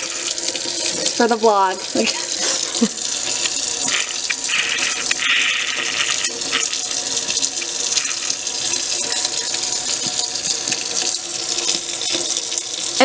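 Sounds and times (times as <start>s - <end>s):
faucet running into steel sink: 0.0s - 13.0s
water splashes: 0.0s - 13.0s.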